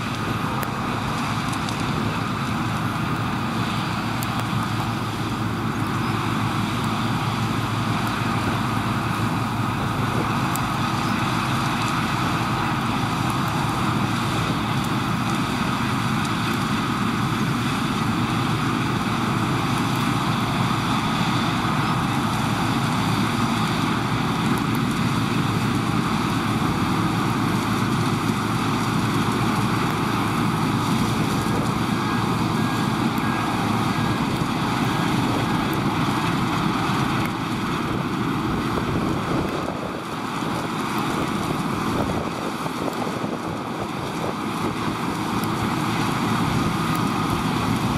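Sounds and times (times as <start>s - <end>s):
steady machinery noise: 0.0s - 47.9s.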